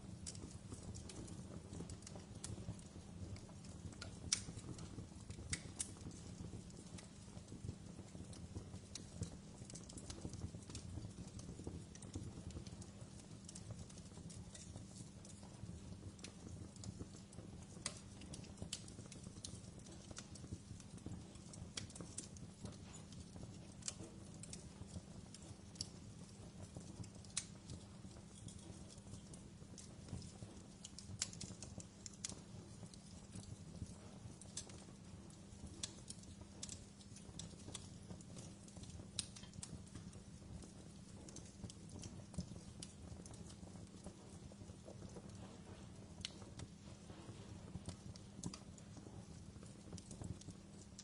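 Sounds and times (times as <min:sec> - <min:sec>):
low rumble of flames: 0:00.0 - 0:51.0
wood fire crackling: 0:00.0 - 0:51.0.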